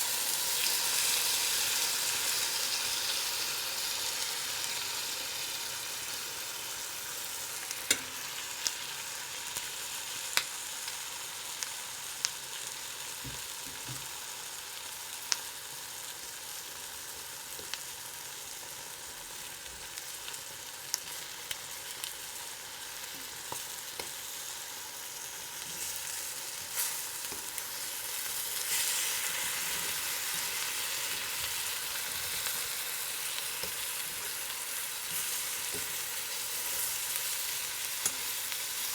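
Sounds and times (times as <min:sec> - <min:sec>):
eggs sizzling in a pan: 0:00.0 - 0:38.9.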